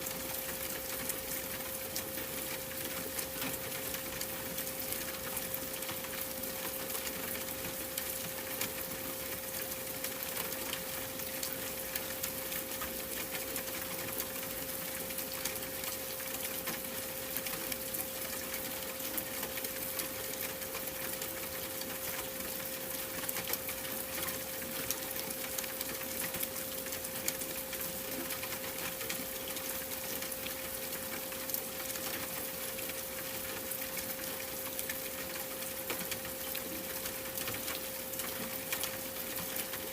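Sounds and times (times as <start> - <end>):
rain-like hiss with crackles: 0.0 - 39.9.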